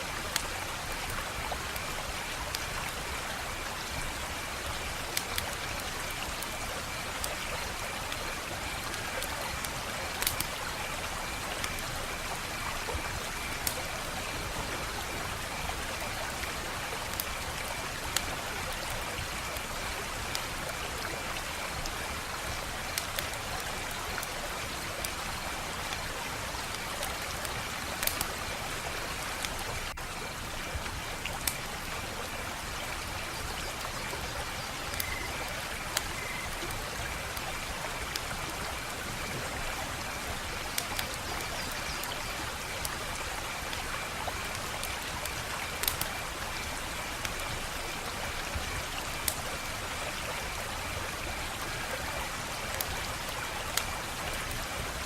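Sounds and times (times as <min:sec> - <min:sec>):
wood fire crackling: 0:00.1 - 0:34.2, 0:34.8 - 0:55.0.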